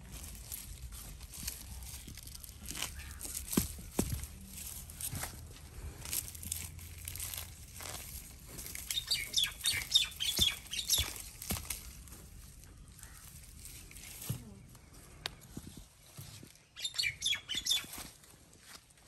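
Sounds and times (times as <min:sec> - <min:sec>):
rustling: 0:00.0 - 0:16.6
small birds chirping: 0:00.2 - 0:05.3, 0:06.2 - 0:18.2.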